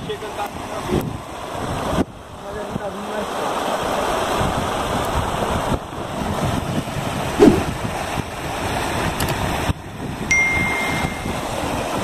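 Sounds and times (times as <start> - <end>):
water runoff flowing: 0.0 - 12.0
wind buffeting microphone: 0.0 - 12.0.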